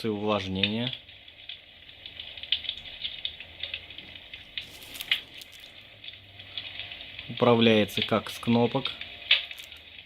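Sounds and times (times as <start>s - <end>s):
crackling firewood sound effect: 0.0s - 10.0s.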